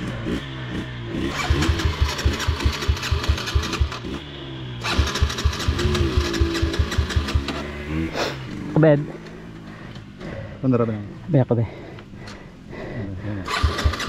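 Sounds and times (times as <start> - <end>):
dirt bike engine pulsing: 0.0 - 14.0.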